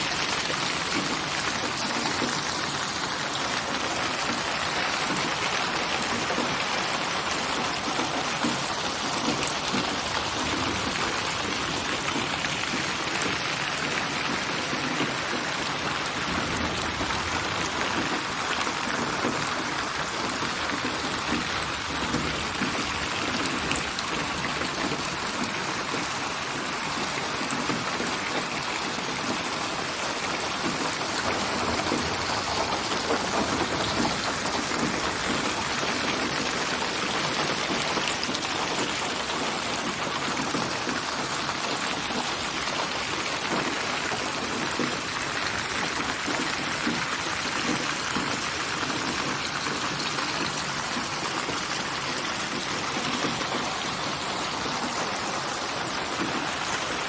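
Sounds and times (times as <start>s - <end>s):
raindrops ticking: 0.0s - 57.0s
steady rain falling: 0.0s - 57.0s.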